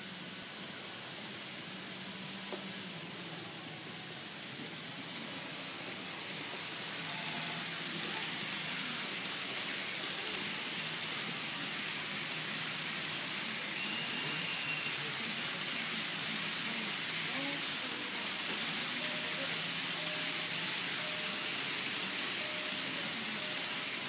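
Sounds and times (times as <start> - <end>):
model train wheels rumbling on rails: 0.0 - 24.0.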